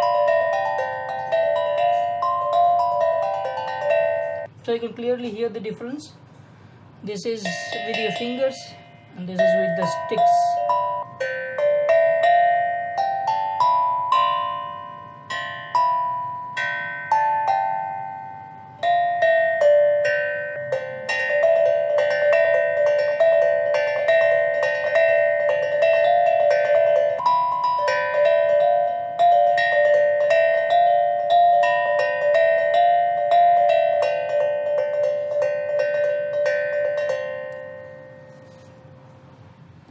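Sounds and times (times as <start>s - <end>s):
steel tongue drum melody: 0.0s - 5.4s, 7.0s - 39.9s.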